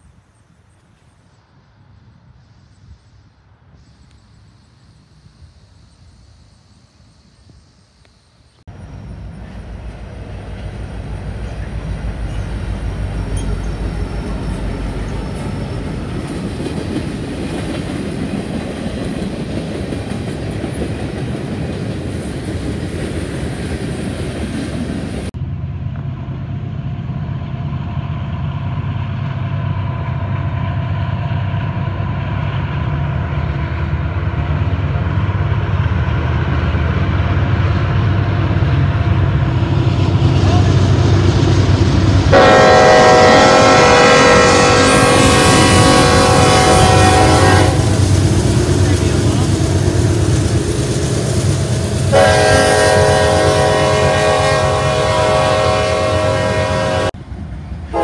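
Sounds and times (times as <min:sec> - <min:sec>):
freight train rumbling past: 0:00.0 - 0:58.0
locomotive engine drone: 0:03.6 - 0:58.0.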